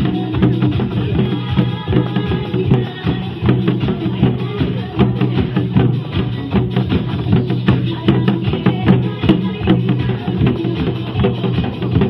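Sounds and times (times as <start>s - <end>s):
upbeat dance music: 0.0s - 12.0s.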